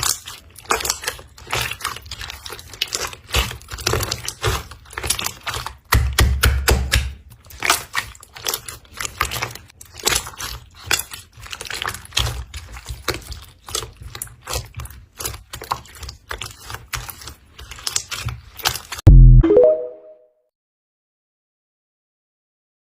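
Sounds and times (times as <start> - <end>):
slime crackling and popping: 0.0 - 19.0.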